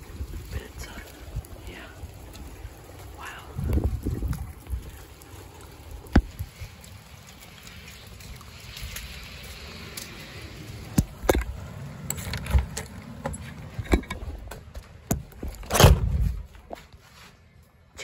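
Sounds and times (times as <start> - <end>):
wind rumble on microphone: 0.0 - 16.8.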